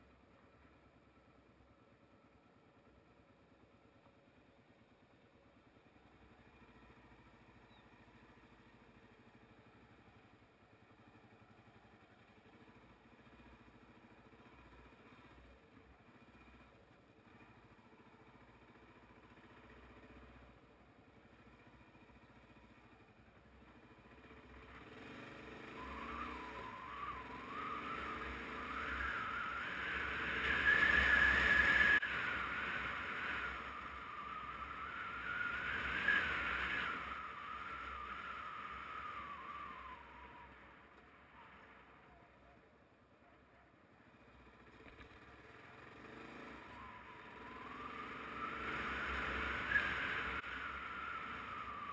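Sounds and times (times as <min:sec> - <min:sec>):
motorcycle engine: 0:00.2 - 0:43.1, 0:44.0 - 0:51.9.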